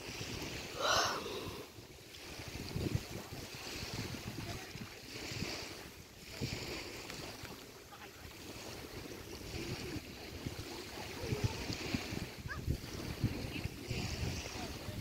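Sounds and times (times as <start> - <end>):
small waves washing on sand: 0.0 - 15.0
wind rumbling on microphone: 0.0 - 15.0.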